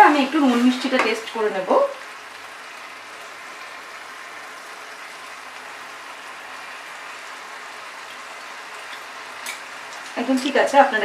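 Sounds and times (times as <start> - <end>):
curry sizzling and bubbling in a pan: 0.0 - 11.0.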